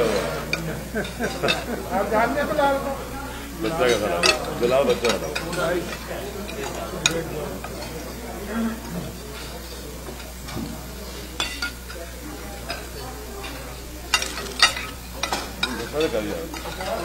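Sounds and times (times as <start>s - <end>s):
cutlery scraping on plate: 0.0s - 1.9s, 3.4s - 8.2s, 8.8s - 17.0s.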